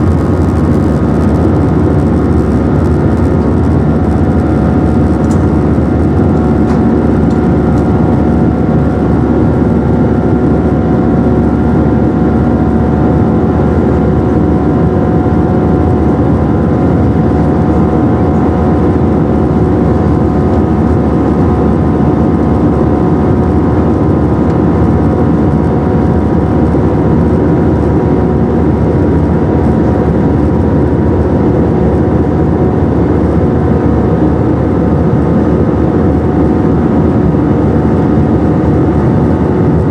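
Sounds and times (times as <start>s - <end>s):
constant engine tones: 0.0s - 39.9s
jet engine cabin rush: 0.0s - 39.9s.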